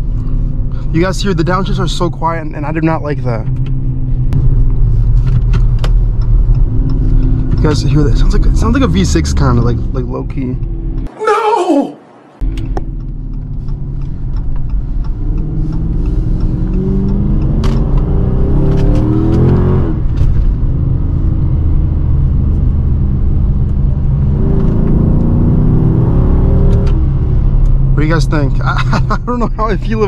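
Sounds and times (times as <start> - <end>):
car engine accelerating: 0.0 - 11.2, 12.0 - 30.0.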